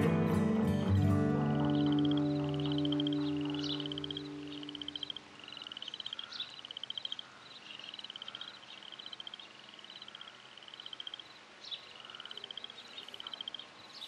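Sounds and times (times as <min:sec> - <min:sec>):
cricket chirping trills: 0:00.9 - 0:14.0.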